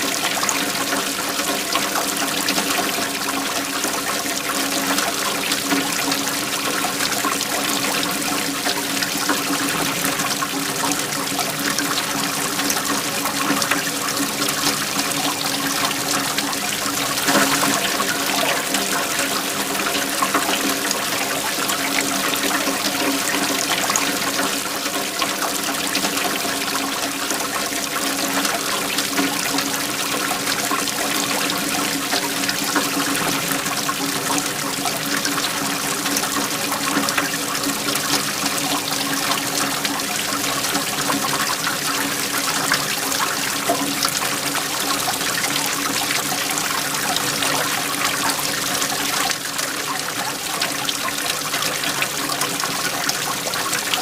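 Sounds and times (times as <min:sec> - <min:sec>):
waterfall pouring and splashing: 0:00.0 - 0:54.0.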